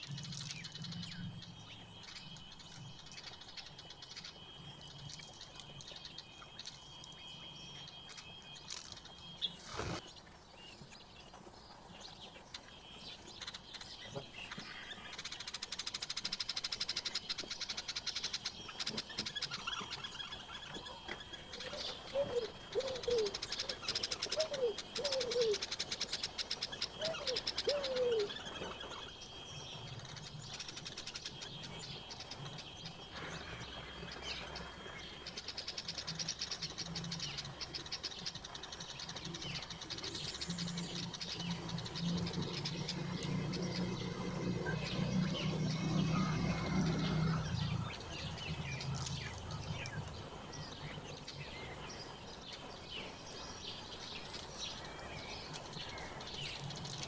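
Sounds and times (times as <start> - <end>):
birds chirping and singing: 0.0 - 10.2, 12.0 - 57.0.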